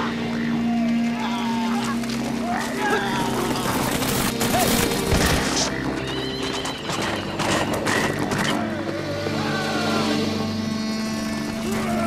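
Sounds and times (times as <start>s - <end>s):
dramatic soundtrack music: 0.0s - 12.0s
horses whinnying: 0.0s - 12.0s.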